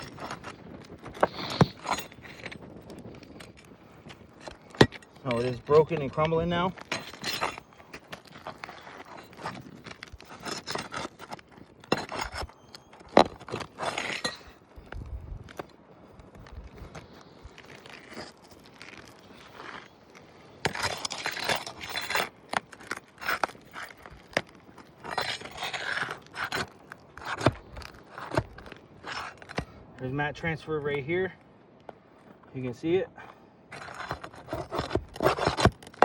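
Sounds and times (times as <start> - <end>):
shingle cracking: 0.0 - 29.8, 33.7 - 36.0
scraping and crunching shingles: 0.0 - 36.0.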